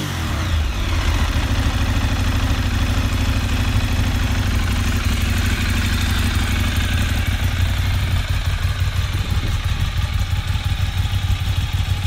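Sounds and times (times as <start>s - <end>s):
motorcycle engine idling: 0.1s - 12.0s.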